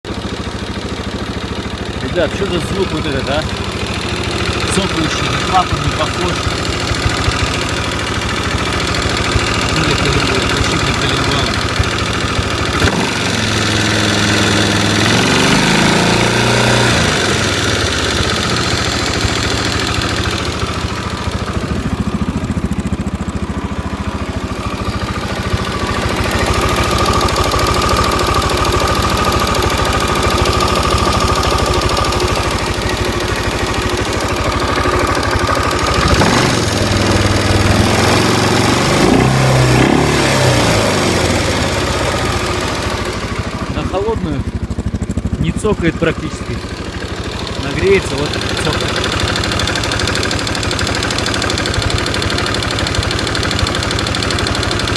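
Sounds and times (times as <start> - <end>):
engine idling and revving: 0.0 - 54.9
engine clicking knock: 0.1 - 39.6, 40.2 - 54.9.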